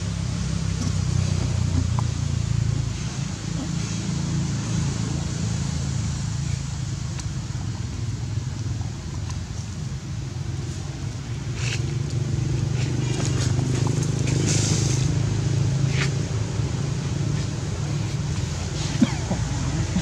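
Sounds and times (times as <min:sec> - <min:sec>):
low engine-like rumble: 0:00.0 - 0:20.0.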